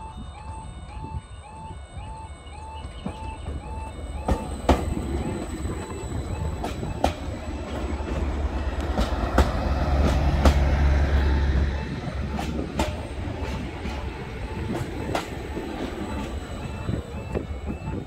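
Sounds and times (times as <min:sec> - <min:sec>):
train heavy low rumble: 0:00.0 - 0:18.0.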